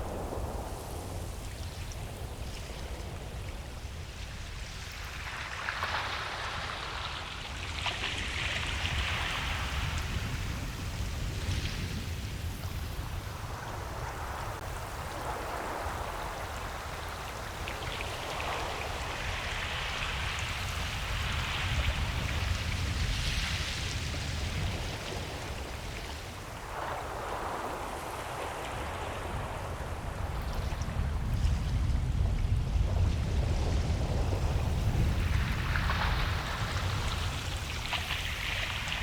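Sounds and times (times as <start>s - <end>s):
surf hiss of waves: 0.0s - 39.0s.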